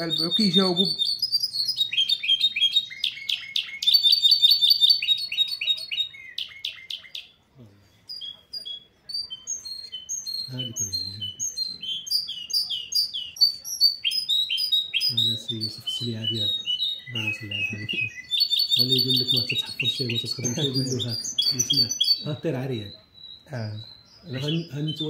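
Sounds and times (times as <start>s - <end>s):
bird singing chirps and trills: 0.0s - 25.0s.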